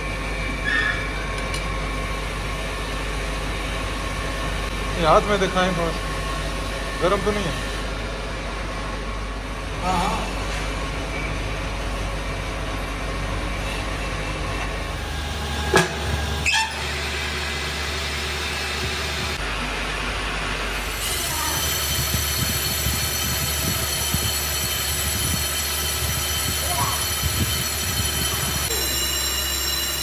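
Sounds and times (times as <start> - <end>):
lathe running hum and whine: 0.0 - 30.0.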